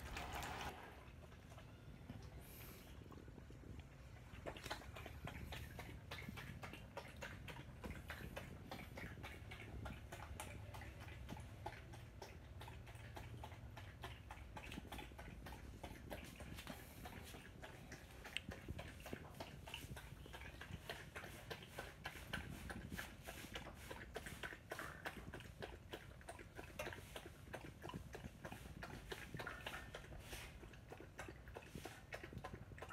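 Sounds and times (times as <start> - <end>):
dog lapping milk: 0.0 - 32.9.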